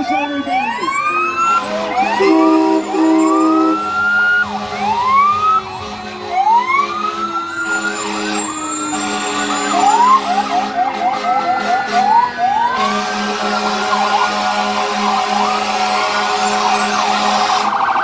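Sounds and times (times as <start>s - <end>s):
siren yelping: 0.0s - 18.0s
sirens wailing: 0.0s - 18.0s.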